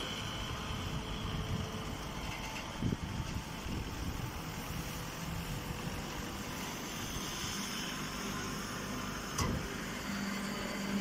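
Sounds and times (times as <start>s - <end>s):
baler mechanical hum: 0.0s - 11.0s.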